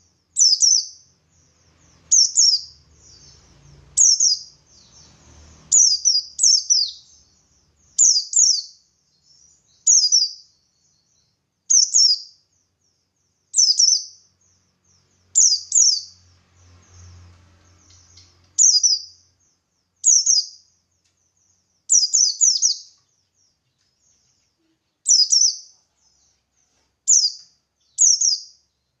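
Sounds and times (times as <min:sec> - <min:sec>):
faint low hum: 0:00.0 - 0:29.0
soft bird twittering: 0:00.0 - 0:29.0.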